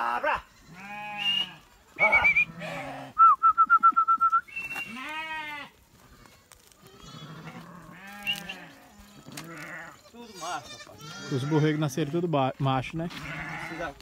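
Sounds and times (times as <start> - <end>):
goats and sheep bleating: 0.0 - 3.2, 4.6 - 14.0.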